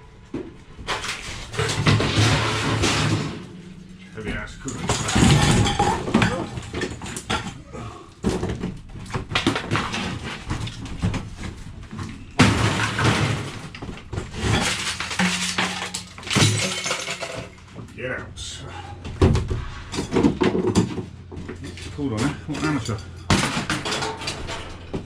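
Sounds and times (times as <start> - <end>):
sheet metal clattering and scraping: 0.8 - 17.9, 19.0 - 25.0.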